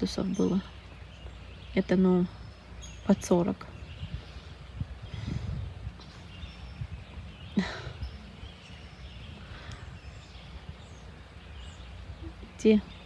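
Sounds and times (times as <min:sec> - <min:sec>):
faint bird calls: 0:00.0 - 0:13.0
steady low rumble: 0:00.0 - 0:13.0.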